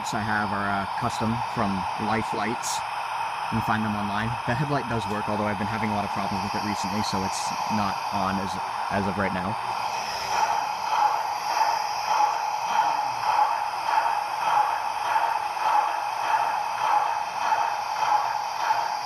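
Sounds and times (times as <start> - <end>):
steam locomotive hiss pulsing: 0.0 - 19.0.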